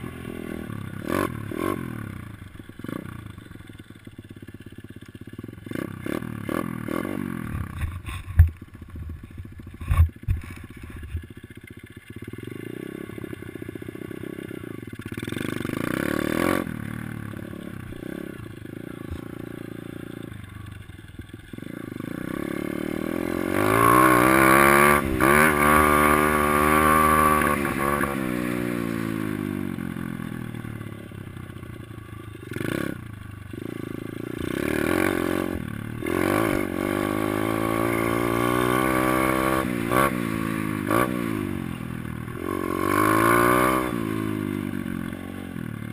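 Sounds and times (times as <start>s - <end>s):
dirt bike engine revving: 0.0s - 3.8s, 5.4s - 8.6s, 9.8s - 31.2s, 32.4s - 45.9s.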